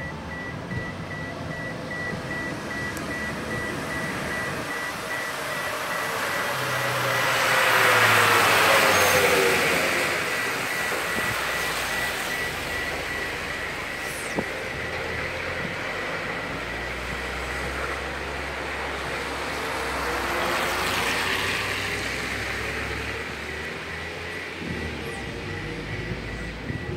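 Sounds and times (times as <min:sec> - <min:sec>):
background traffic noise: 0:00.0 - 0:26.9
vehicle passing on wet road: 0:02.5 - 0:26.3.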